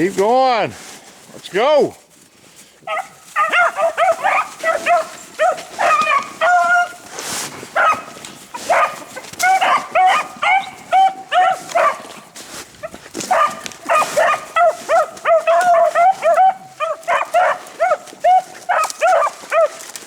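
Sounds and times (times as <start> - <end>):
hounds baying: 2.8 - 20.0.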